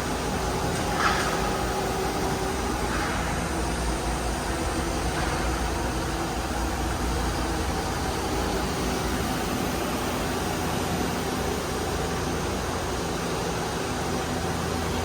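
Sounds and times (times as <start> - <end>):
machine humming with low rumble: 0.0 - 15.0.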